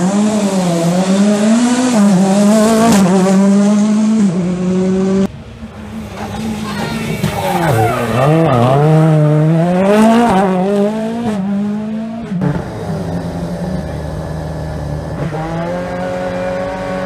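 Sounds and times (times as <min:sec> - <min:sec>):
rally car engine at full load: 0:00.0 - 0:17.0.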